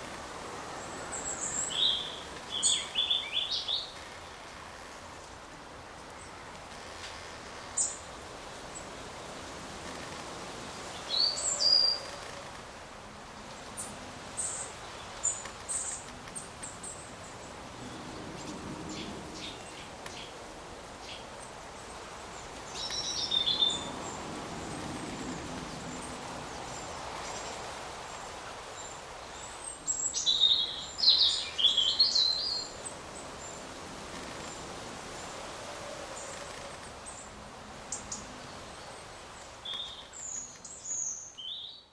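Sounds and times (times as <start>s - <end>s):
forest ambience hiss: 0.0s - 41.9s.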